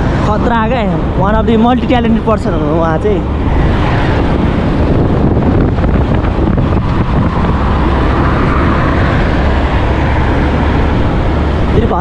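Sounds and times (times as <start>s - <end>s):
motorcycle engine and road drone: 0.0s - 12.0s
van passing: 0.0s - 12.0s
wind rushing over microphone: 0.0s - 12.0s.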